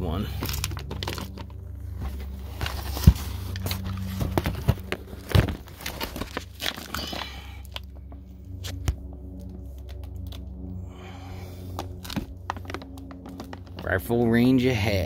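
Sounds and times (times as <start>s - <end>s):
steady low hum: 0.0s - 15.0s
cardboard packaging rustling: 0.2s - 10.4s, 11.8s - 14.1s.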